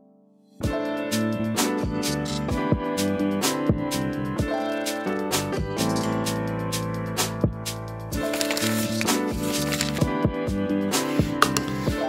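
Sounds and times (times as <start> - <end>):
instrumental background music: 0.5 - 12.0.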